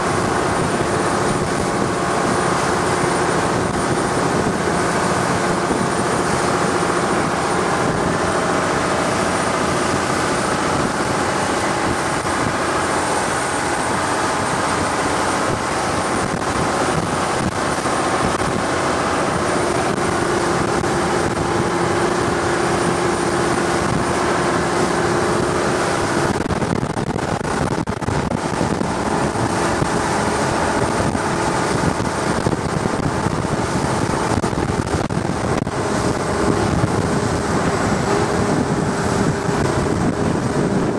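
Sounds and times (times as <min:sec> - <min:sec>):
boat engine droning: 0:00.0 - 0:40.9
rush of air and water: 0:00.0 - 0:40.9.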